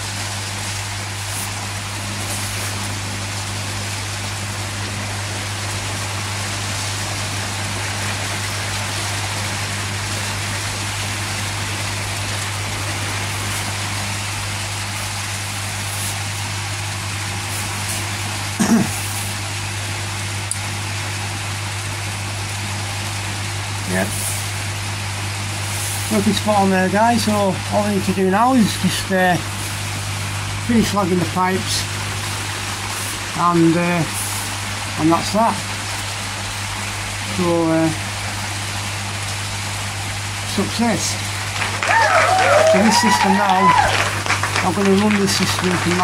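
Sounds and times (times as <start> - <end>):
air pump humming: 0.0 - 46.0.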